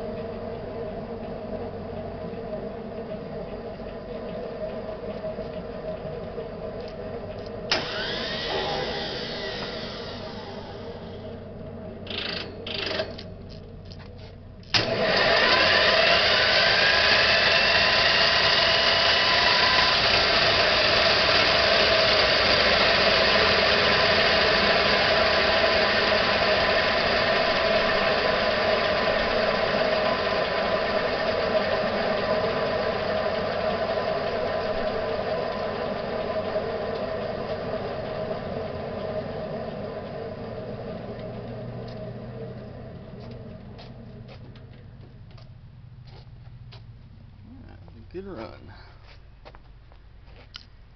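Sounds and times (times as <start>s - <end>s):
short engine bursts: 0.0s - 49.2s
jet engine starting and whining: 0.0s - 50.9s.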